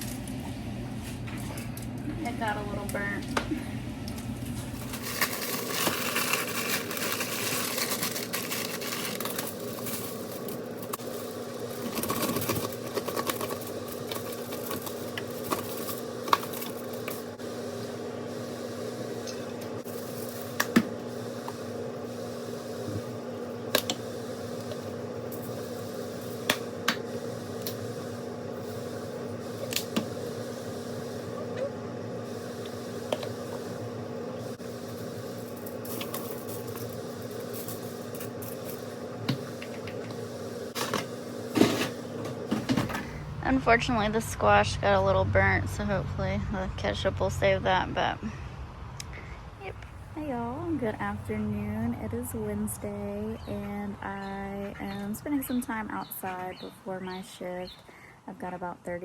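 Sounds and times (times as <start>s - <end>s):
appliance hum: 0.0s - 59.0s.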